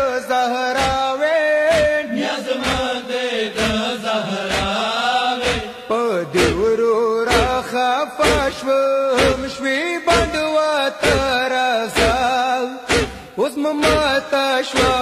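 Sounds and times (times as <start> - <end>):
man chanting a lament: 0.0 - 15.0
chest-beating rhythm: 0.8 - 3.0, 4.5 - 15.0.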